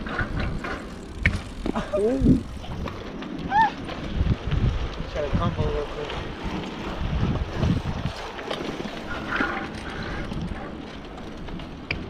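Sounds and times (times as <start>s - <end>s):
bicycle tyres rolling: 0.0s - 12.0s
wind buffeting microphone: 0.0s - 12.0s.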